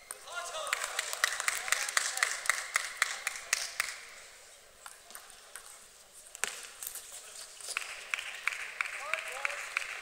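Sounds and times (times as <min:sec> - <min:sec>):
low hall background noise: 0:00.0 - 0:10.0.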